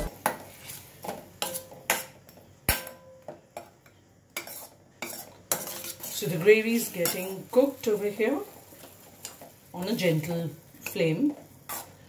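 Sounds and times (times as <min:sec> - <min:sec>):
metal spoon stirring in a pan: 0:00.0 - 0:03.0, 0:03.6 - 0:10.0, 0:10.8 - 0:12.0.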